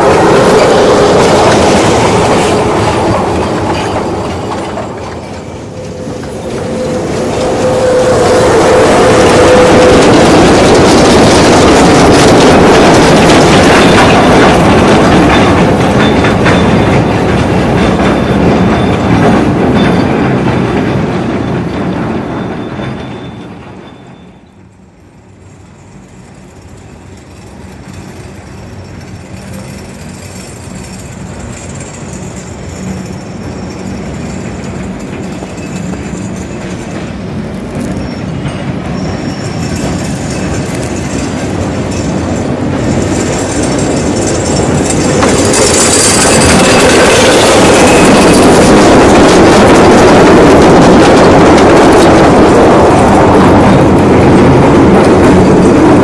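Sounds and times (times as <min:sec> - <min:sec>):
electric locomotive hauling wagons: 0:00.0 - 0:56.0.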